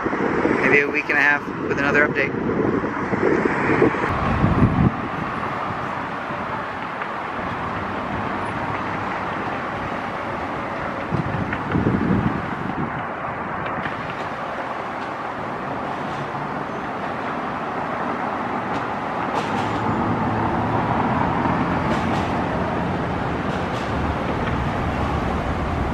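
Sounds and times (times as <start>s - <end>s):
road traffic passing: 0.0s - 25.9s.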